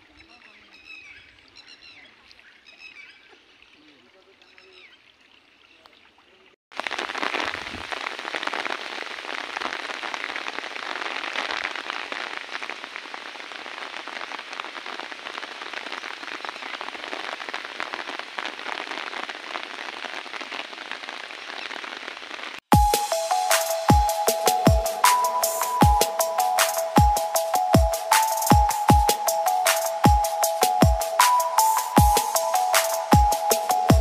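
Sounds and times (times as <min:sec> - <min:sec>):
rain falling: 0:06.7 - 0:34.0.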